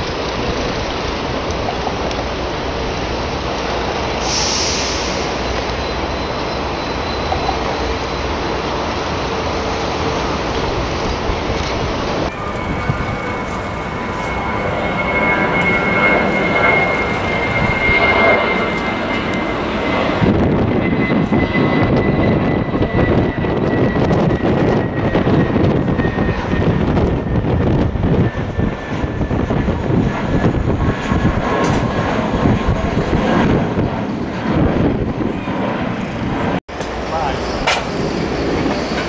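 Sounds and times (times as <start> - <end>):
jet engines roaring with whine: 0.0 - 39.0.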